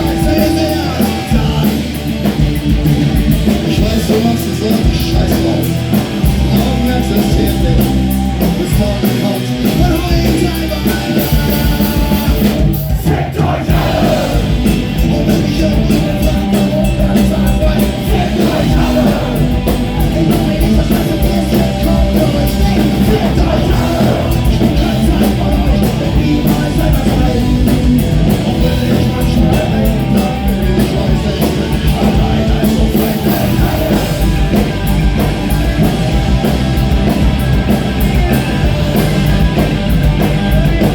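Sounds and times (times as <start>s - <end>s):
person singing: 0.0s - 2.0s, 3.6s - 34.6s
drums: 0.0s - 40.9s
electric guitars: 0.0s - 40.9s.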